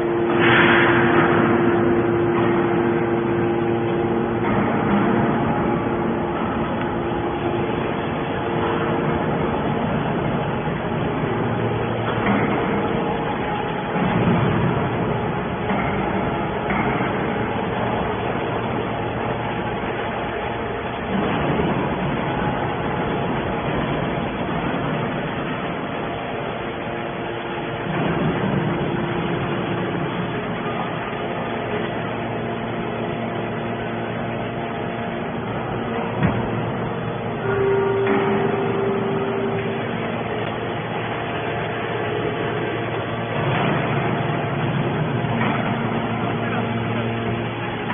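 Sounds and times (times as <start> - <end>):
hydraulic baler machine hum: 0.0 - 47.9.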